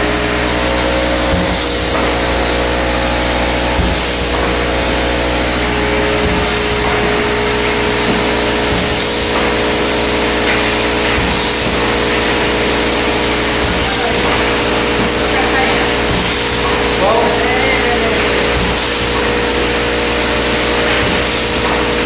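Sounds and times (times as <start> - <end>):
filling machine mechanical drone: 0.0 - 22.0.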